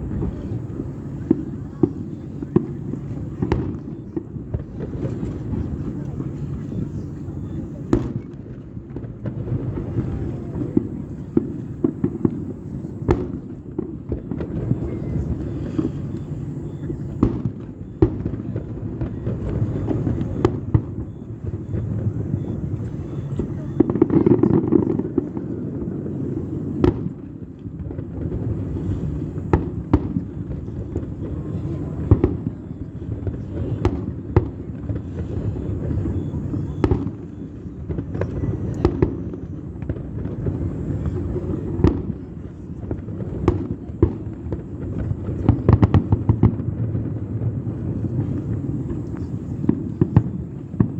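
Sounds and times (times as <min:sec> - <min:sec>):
fireworks bursting with sharp bangs: 0:00.0 - 0:50.9.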